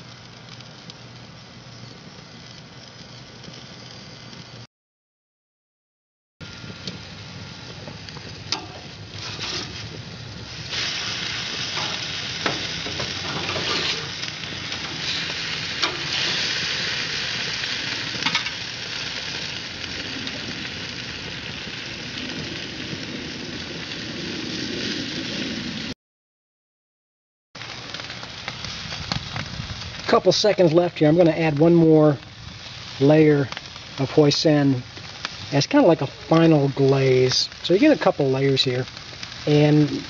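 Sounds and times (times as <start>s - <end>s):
meat sizzling on a grill: 0.0s - 4.7s, 6.4s - 25.9s, 27.6s - 40.0s.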